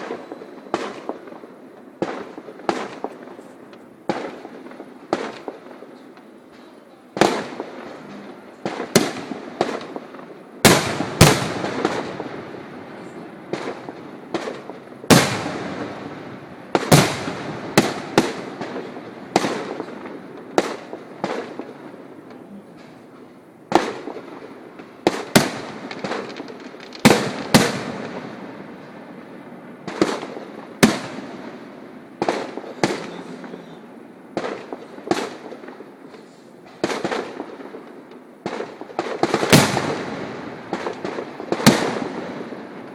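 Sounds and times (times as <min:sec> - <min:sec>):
firework shells bursting: 0:00.0 - 0:42.9
fireworks crackling: 0:00.0 - 0:42.9.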